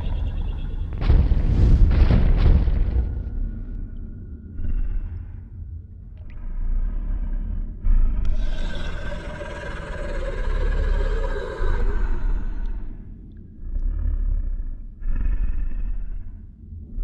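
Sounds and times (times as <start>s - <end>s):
deep rumble: 0.0s - 17.0s.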